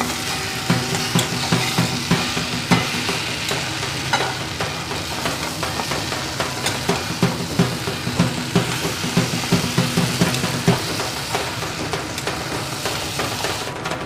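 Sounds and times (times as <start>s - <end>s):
metal spatula scraping pan: 0.0s - 13.7s
vegetables sizzling in oil: 0.0s - 13.8s
music with drums: 0.0s - 14.0s.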